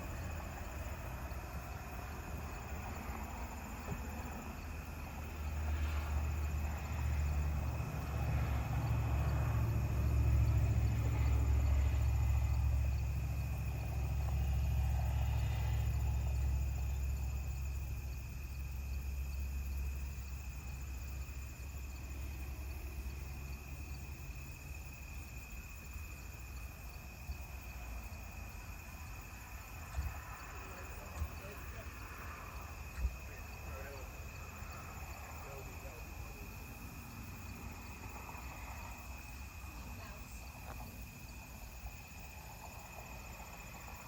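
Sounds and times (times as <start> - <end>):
crickets chirping: 0.0 - 44.0
distant passing vehicle rumble: 0.0 - 44.0.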